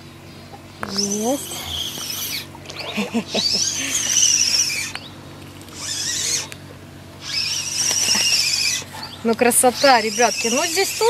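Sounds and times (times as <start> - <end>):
fishing reel whining: 0.8 - 6.6, 7.2 - 11.0.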